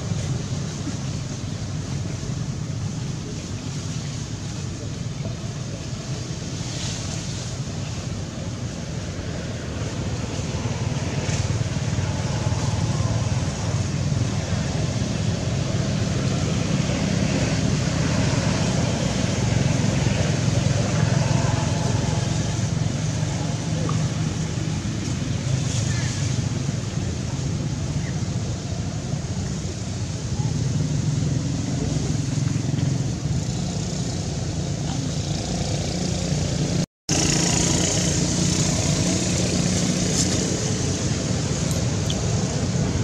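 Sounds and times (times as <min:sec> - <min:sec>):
low outdoor rumble: 0:00.0 - 0:43.0.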